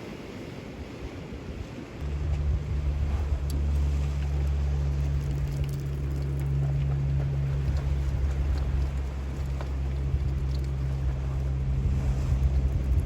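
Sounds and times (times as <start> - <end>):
surf: 0.0 - 13.0
wind: 0.0 - 13.0
low engine-like hum: 2.0 - 13.0.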